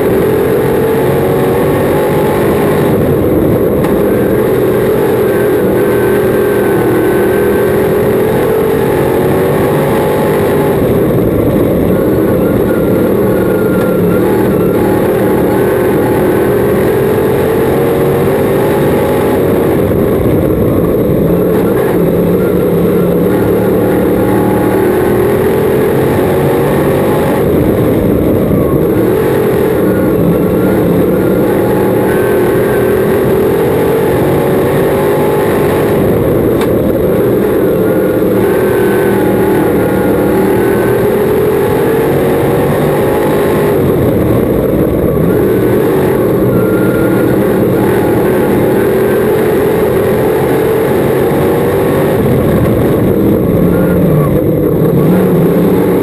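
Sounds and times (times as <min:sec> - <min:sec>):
race car engine at speed: 0:00.0 - 0:56.0.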